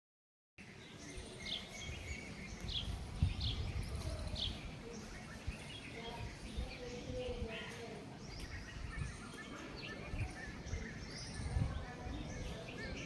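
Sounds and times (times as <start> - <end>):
small bird chirping: 0.6 - 13.0.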